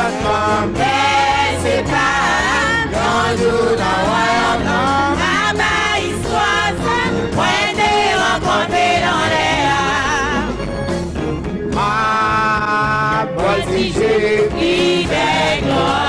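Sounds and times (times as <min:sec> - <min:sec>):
group singing gospel: 0:00.0 - 0:10.6, 0:11.8 - 0:16.0
bass line: 0:00.0 - 0:16.0.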